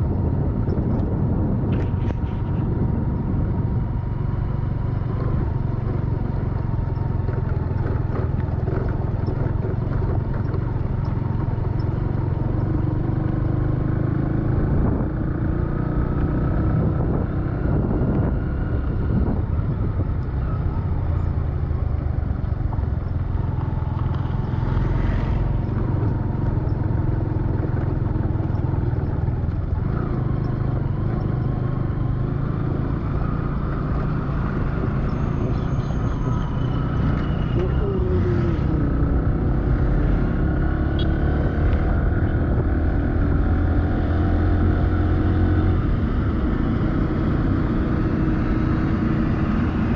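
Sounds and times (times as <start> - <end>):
vehicle engine hum and road noise: 0.0 - 49.9.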